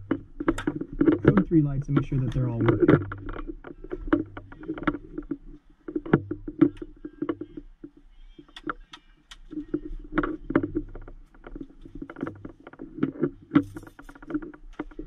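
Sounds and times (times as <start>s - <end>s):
hands clicking and rubbing on panel: 0.0s - 15.0s.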